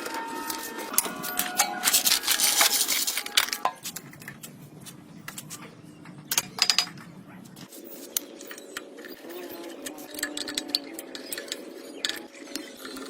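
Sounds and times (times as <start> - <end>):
metal clinking and scraping: 0.0 - 13.0.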